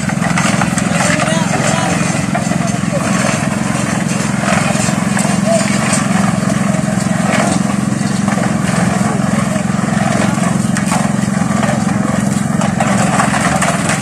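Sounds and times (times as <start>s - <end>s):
concrete mixer engine running: 0.0s - 14.0s.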